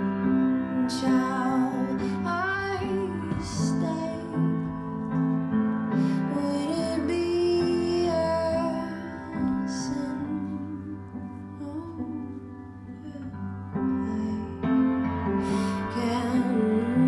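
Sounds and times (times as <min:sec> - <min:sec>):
music with long held notes: 0:00.0 - 0:17.0.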